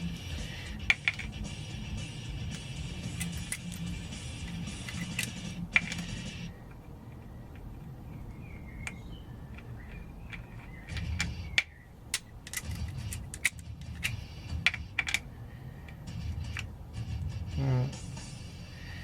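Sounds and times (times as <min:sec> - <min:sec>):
hand tools clicking and tapping: 0:00.0 - 0:17.4
sharp metallic clicks: 0:00.0 - 0:17.4.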